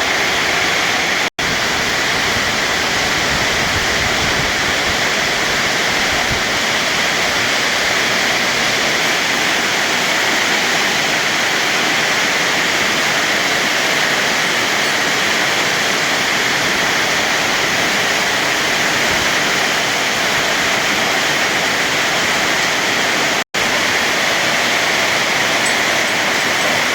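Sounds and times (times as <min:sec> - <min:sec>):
rain falling: 0:00.0 - 0:26.9.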